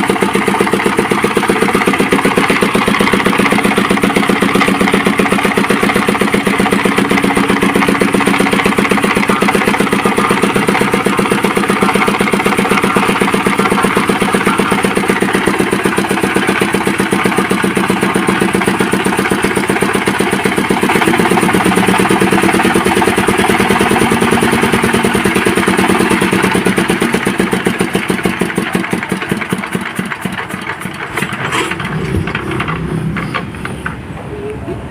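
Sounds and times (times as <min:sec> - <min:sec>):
generator engine running: 0:00.0 - 0:34.9.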